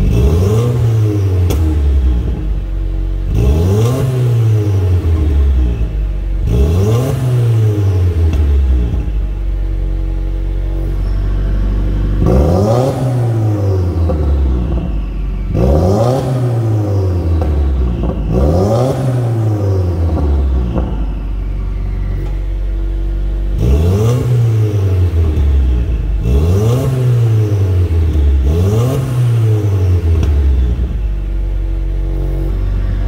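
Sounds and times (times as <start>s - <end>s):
car engine revving: 0.0s - 33.0s
engine idling: 0.0s - 33.0s.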